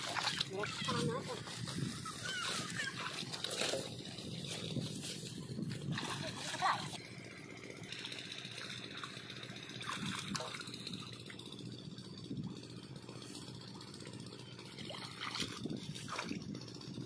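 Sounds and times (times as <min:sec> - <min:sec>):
water splashing and sloshing: 0:00.0 - 0:07.0, 0:07.8 - 0:11.7, 0:13.2 - 0:17.0
diesel pump engine running: 0:00.0 - 0:17.0.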